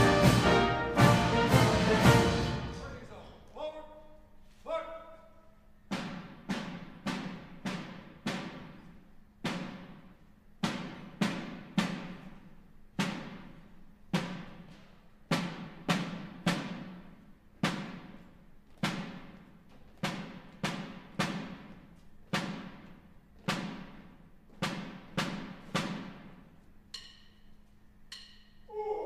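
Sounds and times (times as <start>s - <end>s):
marching drum strikes: 0.0s - 3.3s, 5.8s - 27.5s.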